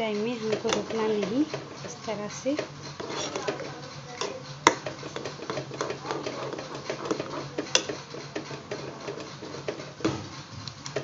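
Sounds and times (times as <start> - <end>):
spoon scraping a pot: 0.0 - 10.1.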